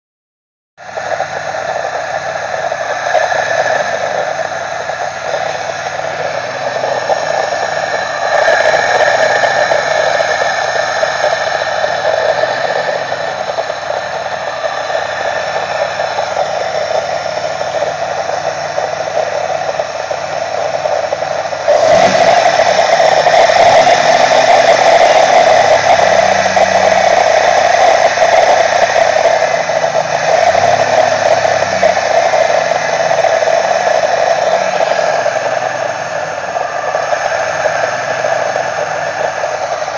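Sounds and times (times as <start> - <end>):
engine intake rushing: 0.8 - 39.9.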